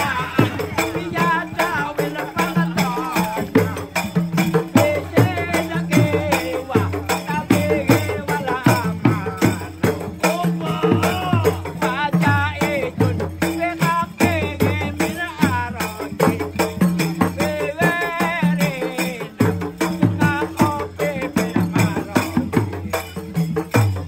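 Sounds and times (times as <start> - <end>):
struck percussion and drums: 0.0 - 24.0.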